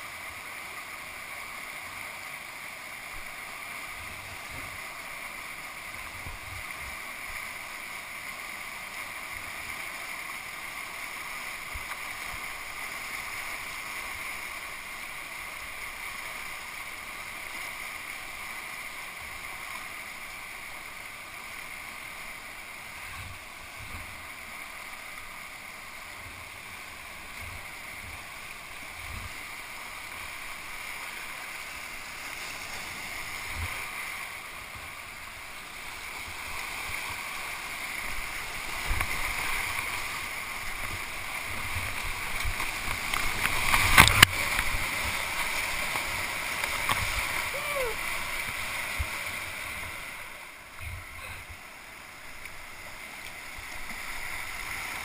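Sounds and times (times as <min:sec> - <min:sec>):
rushing whitewater: 0:00.0 - 0:55.0.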